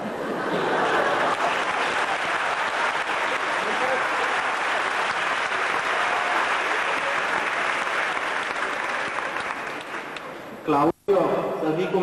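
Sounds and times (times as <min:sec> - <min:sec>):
audience applauding: 0:00.6 - 0:10.4.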